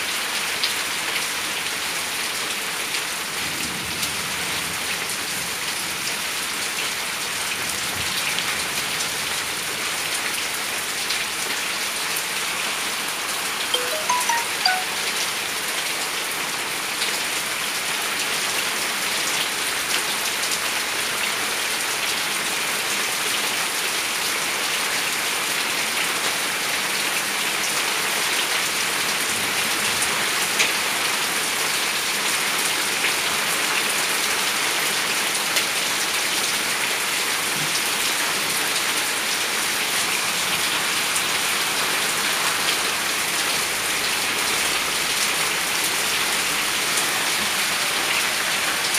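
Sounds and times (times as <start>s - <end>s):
rain on concrete and plants: 0.0s - 48.9s.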